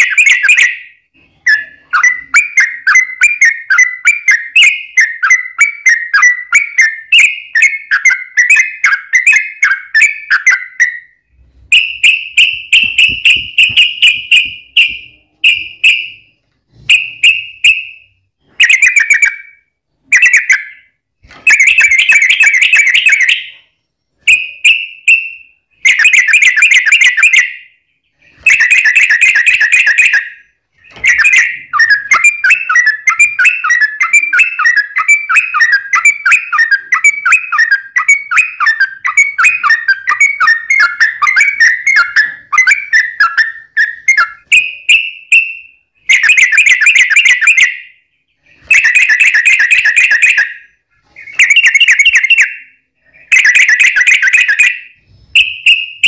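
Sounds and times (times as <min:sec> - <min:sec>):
bulbul song: 0:00.0 - 0:56.0.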